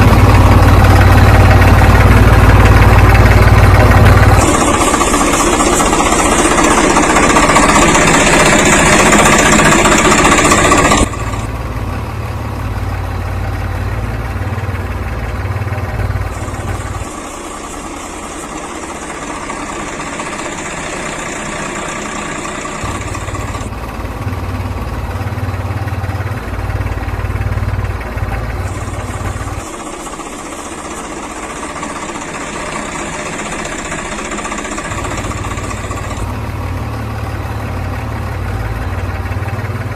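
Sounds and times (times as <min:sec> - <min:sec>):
engine idling rumble: 0:00.0 - 0:39.9.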